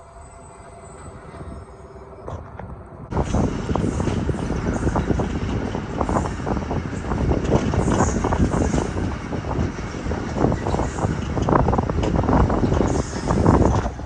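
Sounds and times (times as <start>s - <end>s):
train rumbling and clattering: 0.0s - 14.0s.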